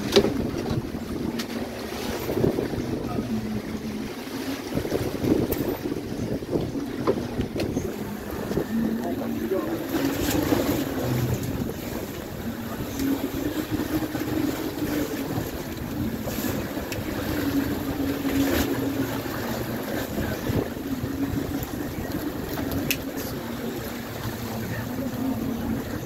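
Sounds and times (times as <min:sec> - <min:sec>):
boat engine humming: 0:00.0 - 0:26.0
water splashing against hull: 0:00.0 - 0:26.0
wind on microphone: 0:00.0 - 0:26.0.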